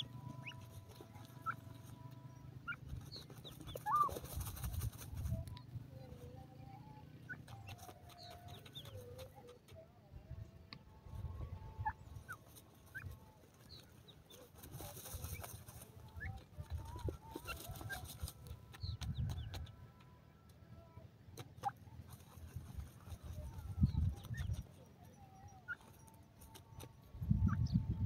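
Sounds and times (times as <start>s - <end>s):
birds chirping and clucking: 0.0s - 9.8s, 10.7s - 20.7s, 21.3s - 28.0s
rustling of dirt and feathers: 0.0s - 9.9s, 10.5s - 28.0s.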